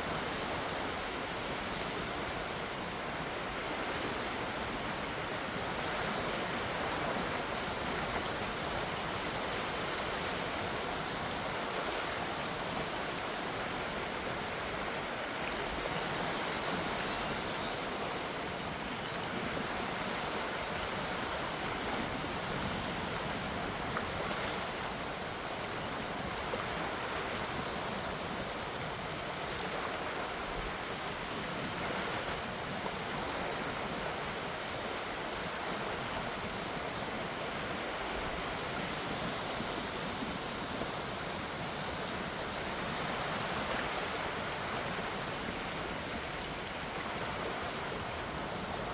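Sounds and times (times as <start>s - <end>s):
gentle sea waves washing: 0.0s - 48.9s.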